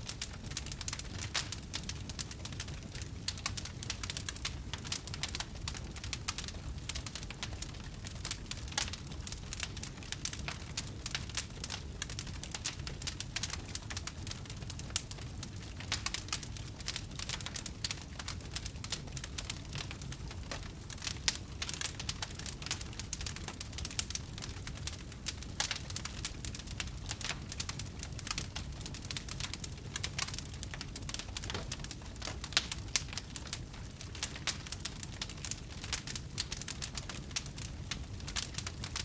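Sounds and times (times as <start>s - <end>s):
campfire crackling and popping: 0.0s - 39.0s
low rumble of flame: 0.0s - 39.0s.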